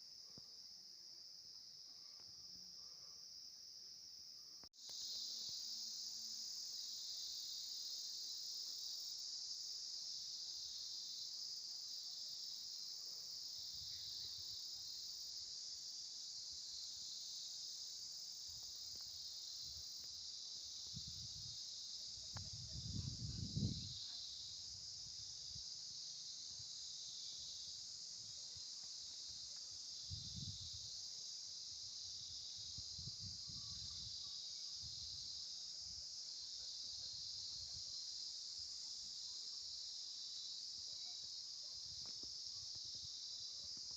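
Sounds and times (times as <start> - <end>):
insect chorus buzzing: 0.0 - 43.9.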